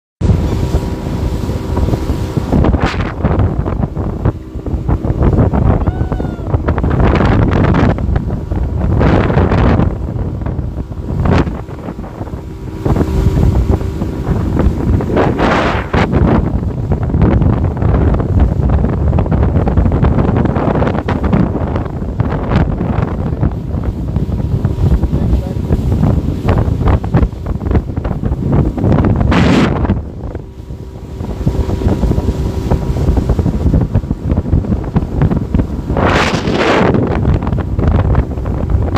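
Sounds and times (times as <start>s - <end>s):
wind buffeting microphone: 0.2s - 38.9s.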